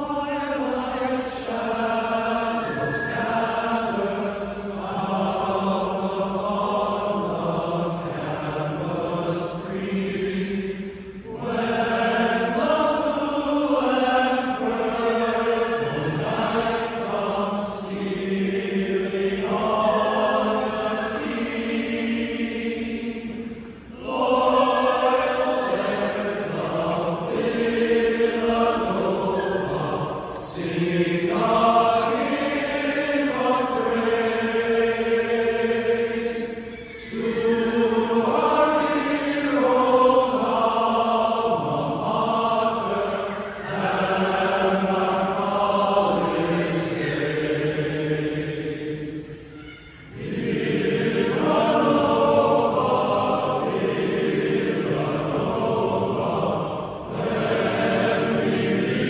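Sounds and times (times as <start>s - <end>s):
men's choir singing a cappella: 0.0s - 59.0s.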